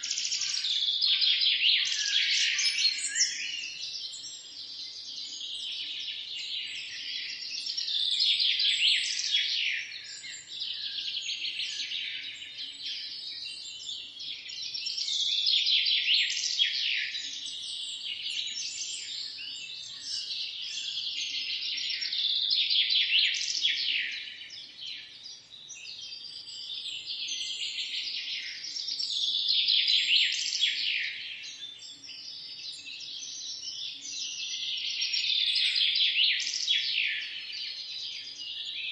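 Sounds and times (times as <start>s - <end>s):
many small birds chirping: 0.0s - 38.9s.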